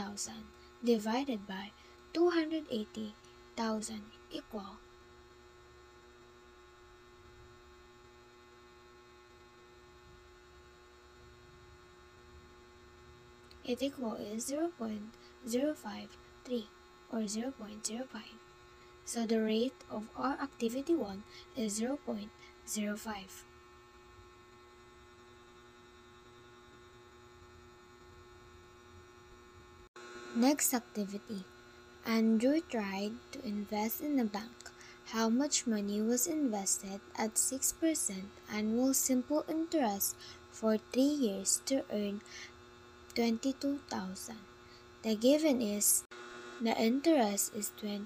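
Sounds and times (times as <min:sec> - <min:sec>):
faint electrical hum: 0:00.0 - 0:48.0.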